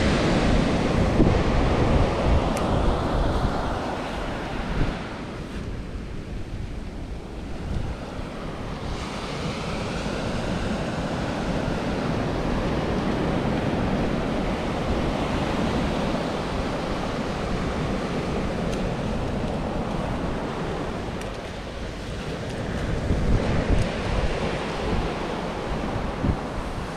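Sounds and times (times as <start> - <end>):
ocean surf breaking: 0.0 - 26.9
wind buffeting microphone: 0.0 - 26.9.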